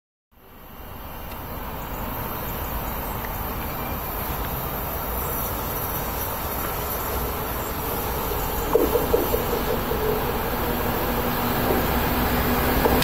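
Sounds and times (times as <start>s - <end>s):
constant high hiss: 0.4s - 13.0s
train wheels rumbling on rails: 0.7s - 13.0s.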